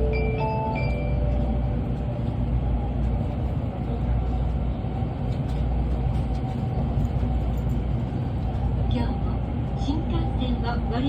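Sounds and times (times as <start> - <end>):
train running noise inside car: 0.0 - 11.0.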